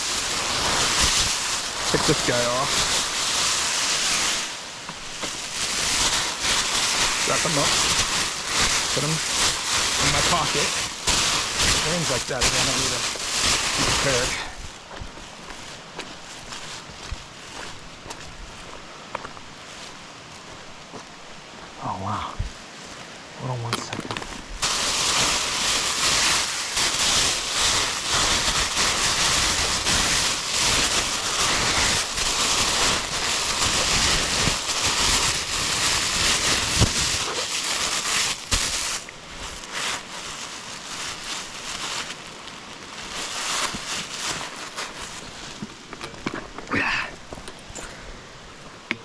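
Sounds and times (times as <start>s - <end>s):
rain: 0.0s - 18.6s, 19.6s - 48.8s.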